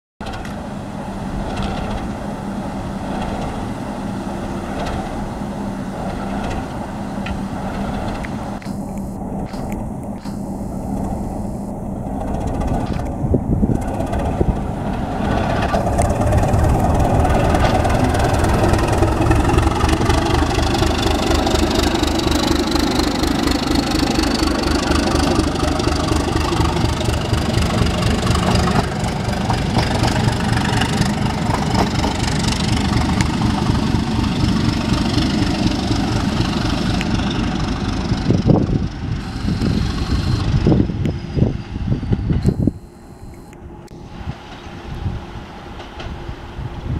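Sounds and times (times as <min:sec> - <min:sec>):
train coaches rolling past: 0:00.2 - 0:43.0, 0:43.6 - 0:46.9
diesel locomotive engine: 0:00.2 - 0:46.9.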